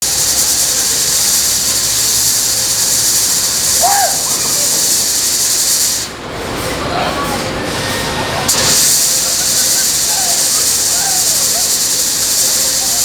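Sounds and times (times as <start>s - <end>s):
spray jet hissing: 0.0s - 6.2s, 8.4s - 13.0s.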